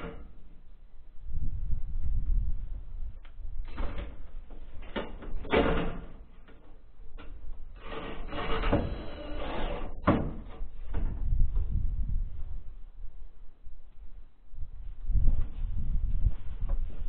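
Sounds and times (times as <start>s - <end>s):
wind rumbling on microphone: 0.0s - 6.2s, 7.1s - 17.0s.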